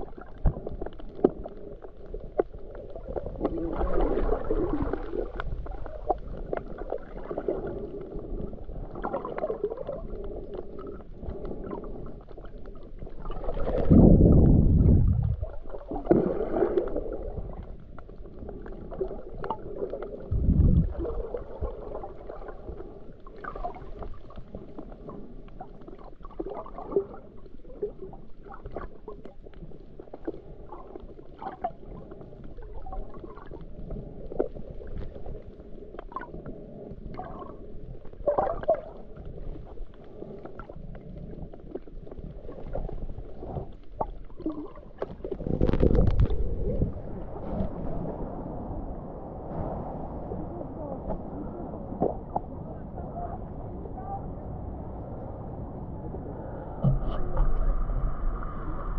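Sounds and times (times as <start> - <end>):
low surge of water: 0.0 - 58.9
muffled underwater wash: 0.0 - 58.9.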